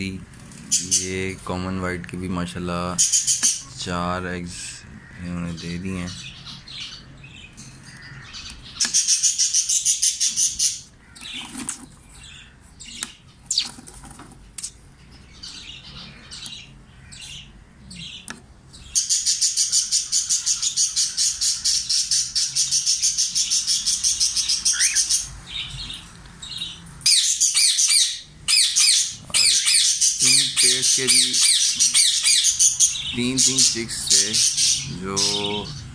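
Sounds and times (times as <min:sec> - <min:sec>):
parrots chirping and chattering: 0:00.0 - 0:35.9.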